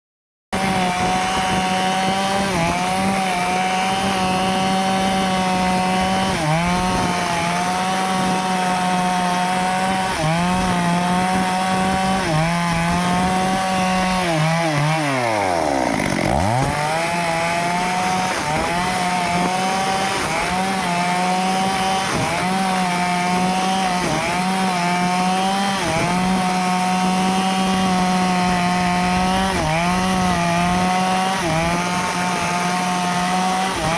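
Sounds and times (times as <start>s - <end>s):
chainsaw cutting wood: 0.5s - 33.9s.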